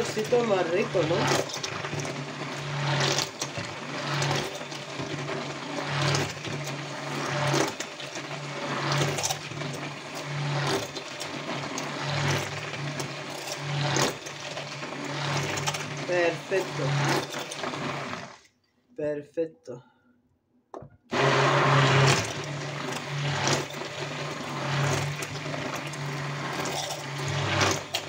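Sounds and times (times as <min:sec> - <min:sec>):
stick blender motor humming: 0:00.0 - 0:18.5, 0:21.1 - 0:28.0.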